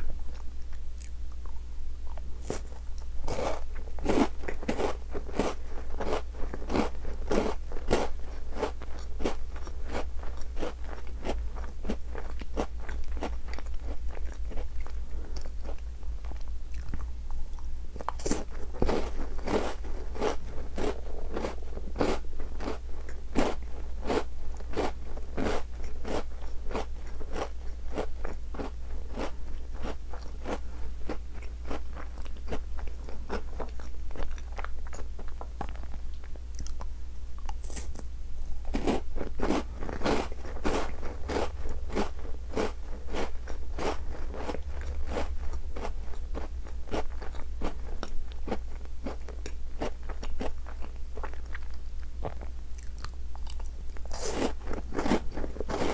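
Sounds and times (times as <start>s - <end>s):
crunchy biscuit chewing: 0.0s - 55.9s.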